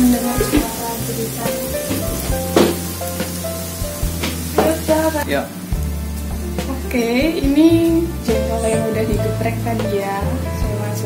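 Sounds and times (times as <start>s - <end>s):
background music: 0.0s - 11.0s
paste sizzling in a wok: 0.0s - 11.0s.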